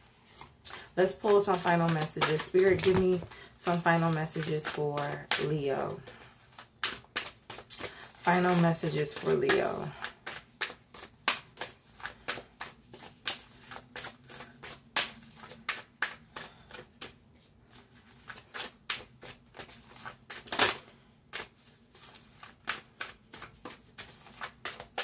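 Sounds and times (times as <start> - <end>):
cards being shuffled: 0.2 - 25.0.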